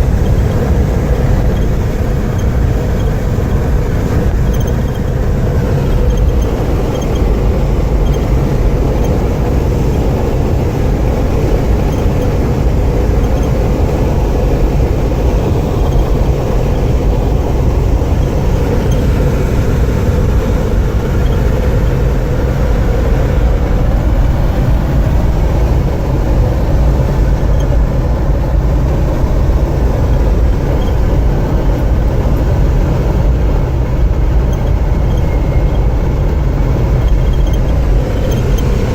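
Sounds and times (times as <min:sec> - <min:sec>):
vehicle rumbling at speed: 0:00.0 - 0:38.9.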